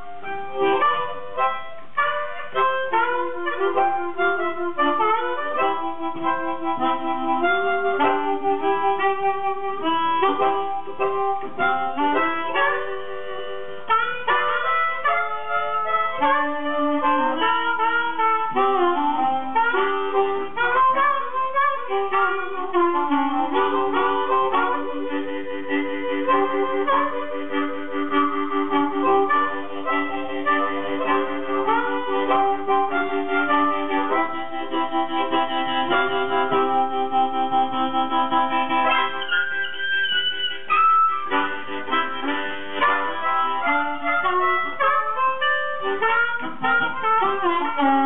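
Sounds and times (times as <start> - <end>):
blues harmonicas playing: 0.0 - 48.0.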